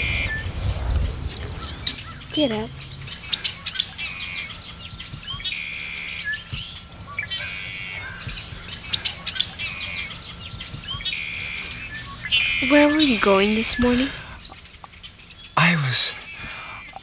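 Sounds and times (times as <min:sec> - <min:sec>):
bird trilling: 0:00.0 - 0:17.0
birds chirping: 0:00.0 - 0:17.0.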